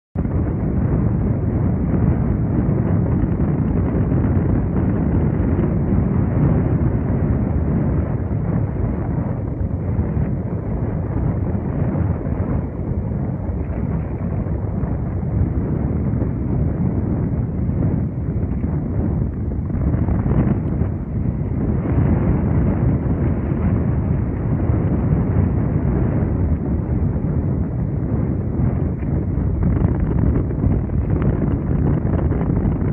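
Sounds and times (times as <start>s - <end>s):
wind buffeting microphone: 0.2s - 32.9s.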